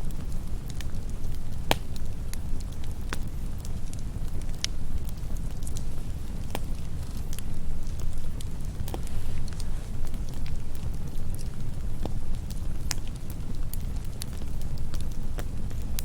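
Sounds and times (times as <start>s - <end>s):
campfire crackling: 0.0s - 16.0s
sharp pops of fire: 0.1s - 16.0s.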